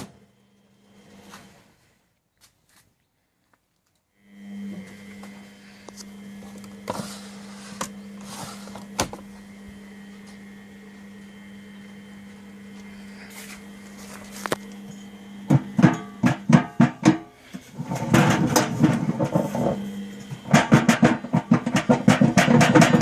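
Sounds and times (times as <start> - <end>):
washing machine humming: 4.2 - 23.0.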